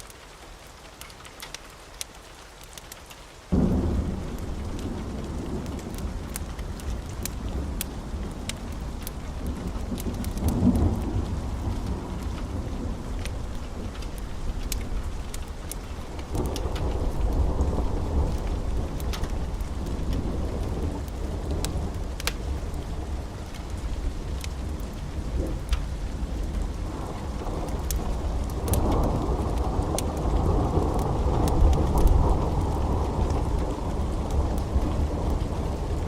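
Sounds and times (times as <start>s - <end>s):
fire crackles and pops: 0.0s - 36.0s
fire roaring in a fireplace: 4.0s - 36.0s.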